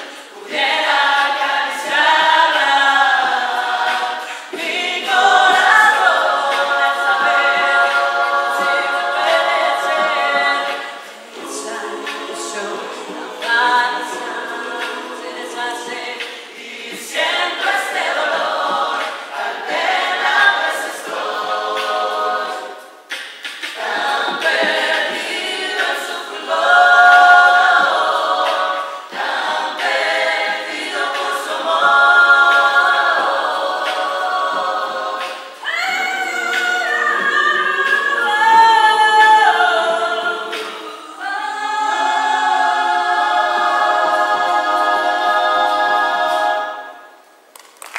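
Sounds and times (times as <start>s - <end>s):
choir singing in harmony: 0.0s - 47.5s.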